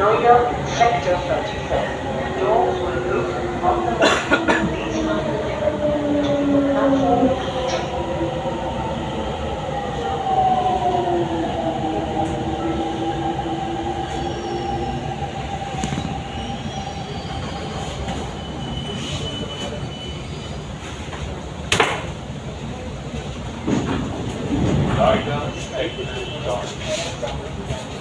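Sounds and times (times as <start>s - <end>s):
metro train rumble and whine: 0.0s - 28.0s.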